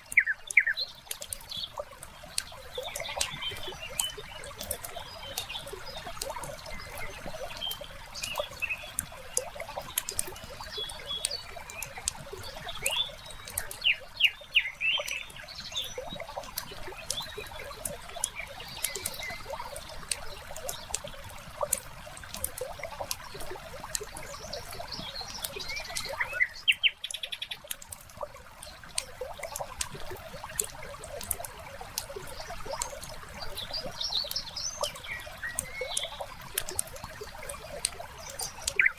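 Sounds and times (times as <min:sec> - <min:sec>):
birds chirping: 0:00.0 - 0:38.9
water trickling: 0:00.0 - 0:38.9.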